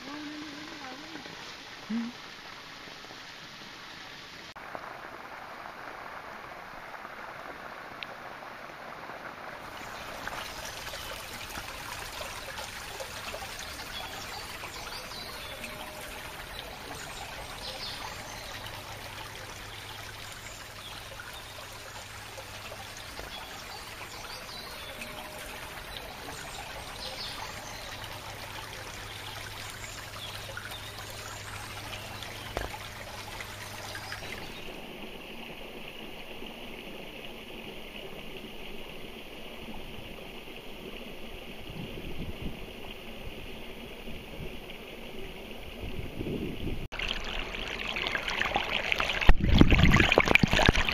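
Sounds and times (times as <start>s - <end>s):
river water trickling over stones: 0.0s - 50.9s.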